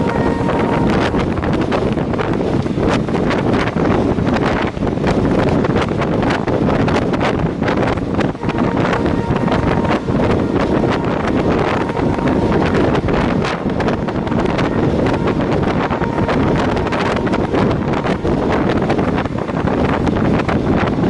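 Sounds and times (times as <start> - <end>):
train coach rumble: 0.0 - 21.0
wheels rattling on track: 0.0 - 21.0
wind buffeting microphone: 0.0 - 21.0.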